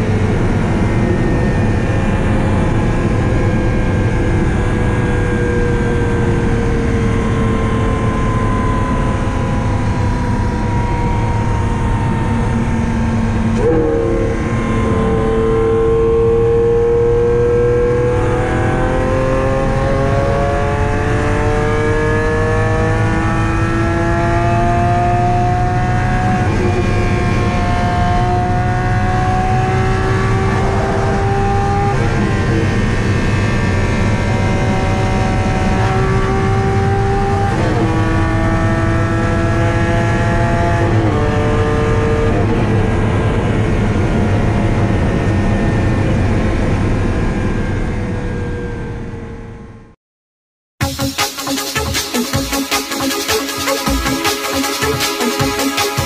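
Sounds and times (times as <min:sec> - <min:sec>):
car engine at full throttle: 0:00.0 - 0:50.0
wind and road roar: 0:00.0 - 0:50.0.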